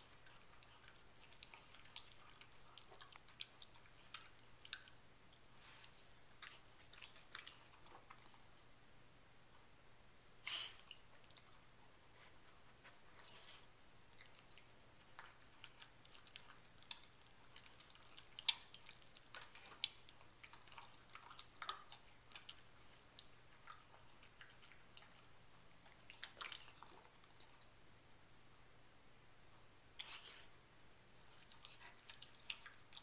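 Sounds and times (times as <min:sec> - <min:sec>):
dog chewing: 0:00.0 - 0:08.7, 0:10.6 - 0:27.7, 0:31.2 - 0:33.0.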